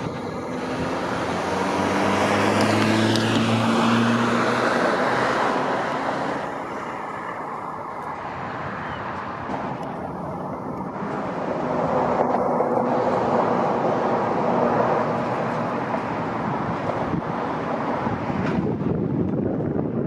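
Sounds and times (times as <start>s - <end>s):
vehicle driving past: 0.0s - 18.7s.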